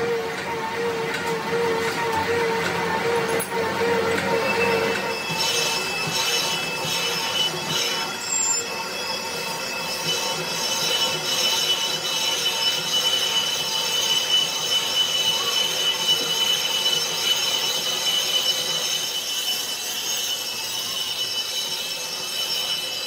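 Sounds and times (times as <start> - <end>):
metalworking machinery squealing: 0.0 - 23.0.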